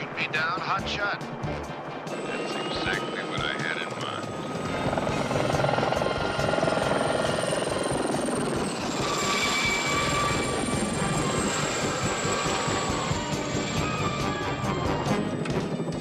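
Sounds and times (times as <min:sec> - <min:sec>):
helicopter rotor blades chopping: 0:00.0 - 0:16.0
high turbine whine: 0:01.5 - 0:16.0.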